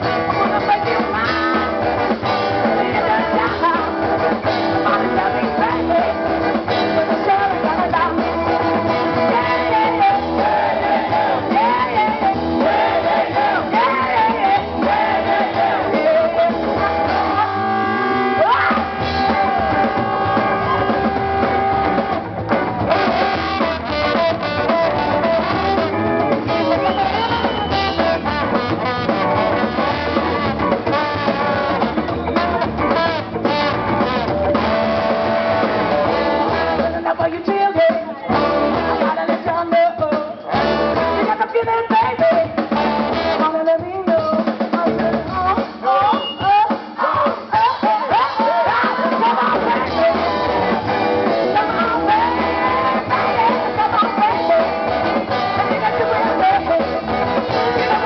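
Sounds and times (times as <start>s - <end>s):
horn section: 0.0s - 37.1s, 42.7s - 43.6s, 47.5s - 58.0s
live band playing: 0.0s - 58.0s.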